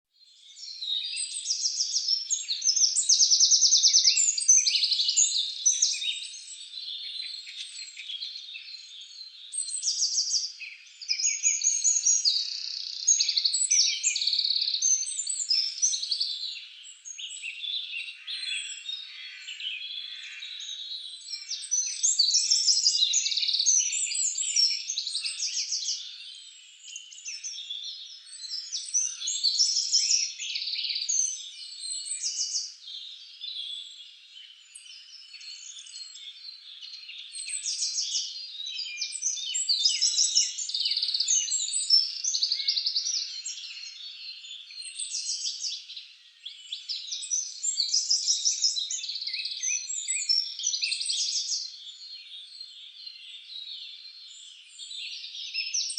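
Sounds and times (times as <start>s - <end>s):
small birds chirping and trilling: 0.1s - 55.9s.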